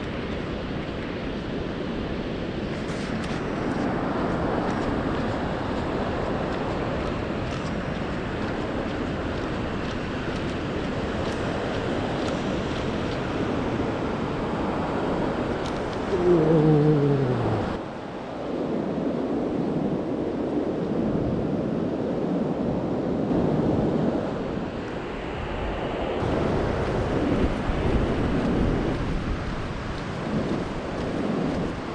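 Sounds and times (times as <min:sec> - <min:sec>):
surf washing on beach: 0:00.0 - 0:31.9
wind buffeting microphone: 0:00.0 - 0:31.9.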